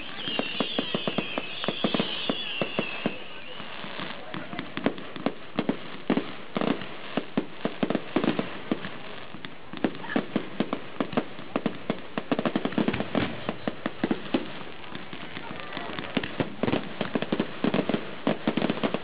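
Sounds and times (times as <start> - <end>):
firework bangs: 0.0 - 19.0
firework crackle: 0.0 - 19.0.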